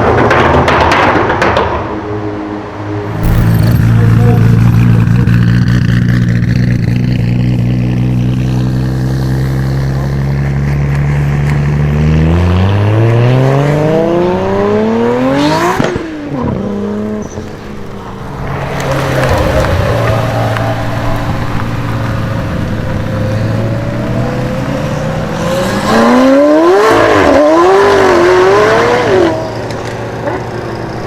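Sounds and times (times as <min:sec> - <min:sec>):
car engine accelerating: 0:03.1 - 0:31.0.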